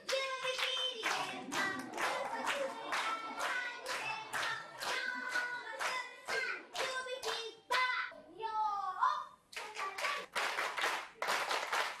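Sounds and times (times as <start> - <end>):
rhythmic hand clapping: 0.0 - 7.9, 9.5 - 12.0.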